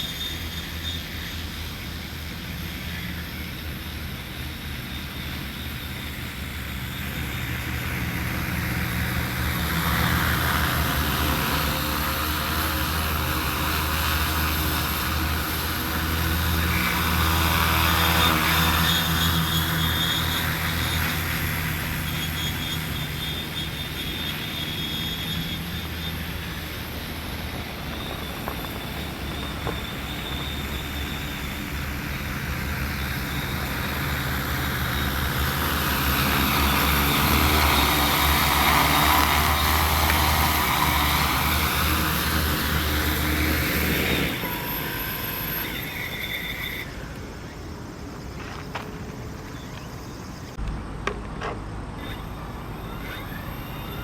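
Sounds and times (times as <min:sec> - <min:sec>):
drone rotors droning: 0:00.0 - 0:54.0.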